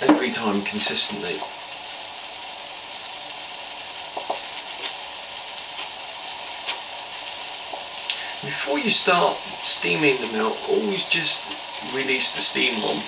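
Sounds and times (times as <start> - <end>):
stovetop espresso maker hissing: 0.0 - 13.0.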